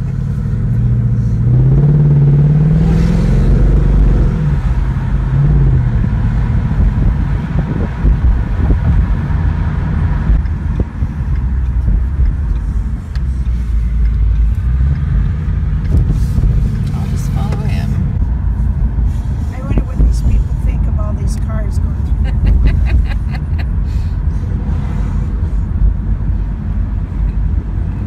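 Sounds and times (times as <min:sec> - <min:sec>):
car engine accelerating: 0:00.0 - 0:28.0
road rumble: 0:00.0 - 0:28.0.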